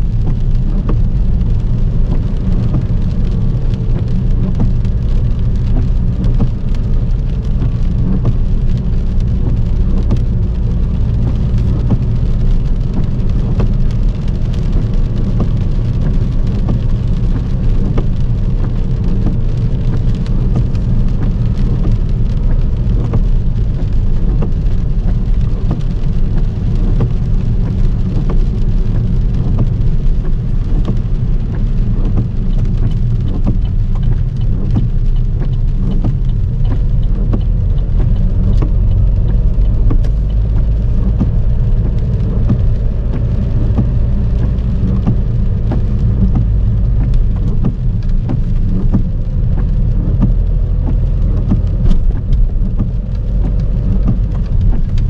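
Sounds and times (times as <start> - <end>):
car rumbling on wet road: 0.0 - 55.0
heavy rain drumming on a car: 0.0 - 55.0.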